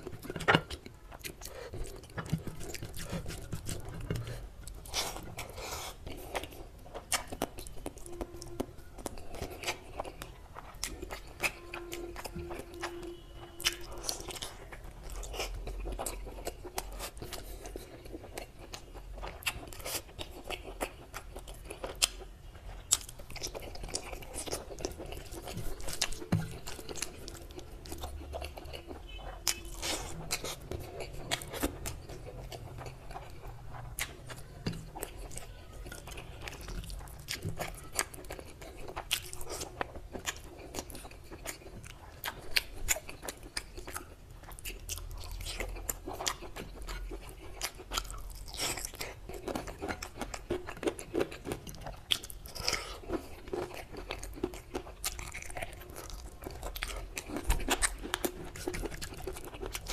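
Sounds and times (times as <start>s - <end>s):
close chewing with wet mouth clicks: 0.0s - 59.9s.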